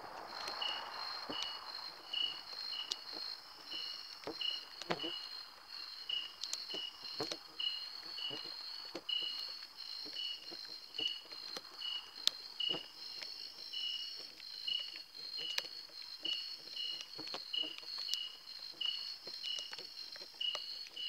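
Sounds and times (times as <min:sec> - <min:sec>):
cricket short chirps: 0:00.2 - 0:21.0.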